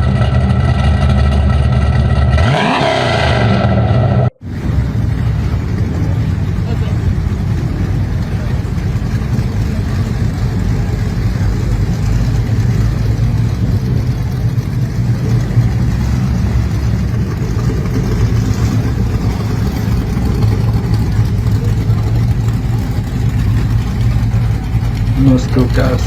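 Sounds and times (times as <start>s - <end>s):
car engine running steadily: 0.0s - 26.0s.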